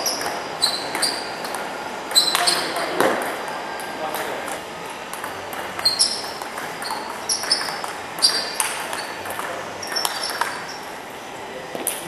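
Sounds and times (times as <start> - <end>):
ping-pong ball clicking: 0.0 - 10.8.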